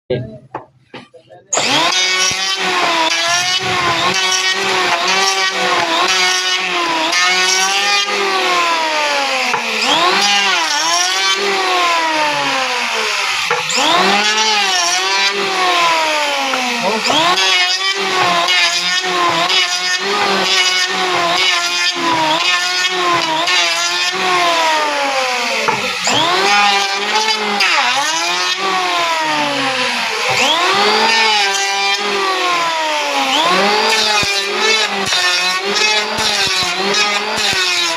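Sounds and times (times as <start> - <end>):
electric planer cutting wood: 1.6 - 37.9.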